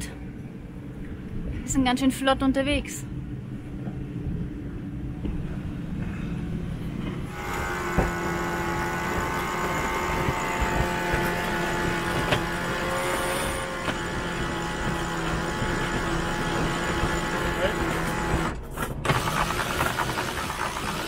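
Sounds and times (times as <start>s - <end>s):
wind: 0.0s - 21.0s
motor running steadily: 2.9s - 21.0s.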